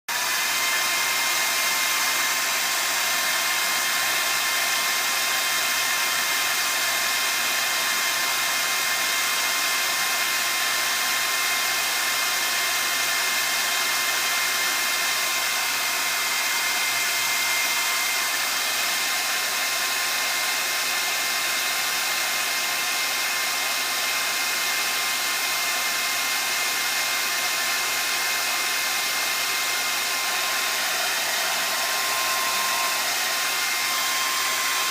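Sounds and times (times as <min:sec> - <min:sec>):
hair dryer running: 0:00.0 - 0:34.9.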